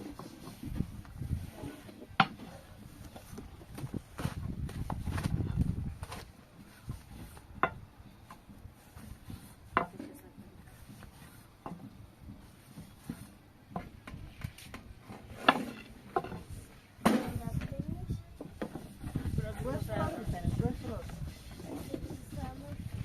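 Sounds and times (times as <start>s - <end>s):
objects rubbing and clattering: 0.0s - 23.0s.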